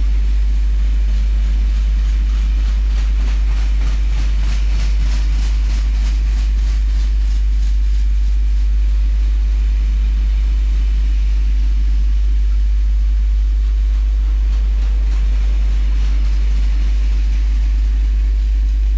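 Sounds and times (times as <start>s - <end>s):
train rumble with wheel hiss: 0.0s - 18.9s.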